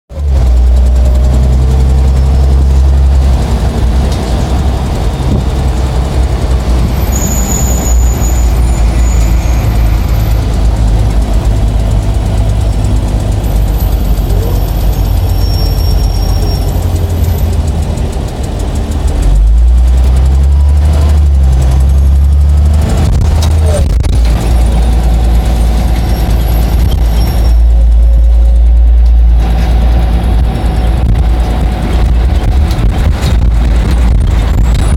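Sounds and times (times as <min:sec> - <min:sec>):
bus diesel engine drone: 0:00.1 - 0:34.9.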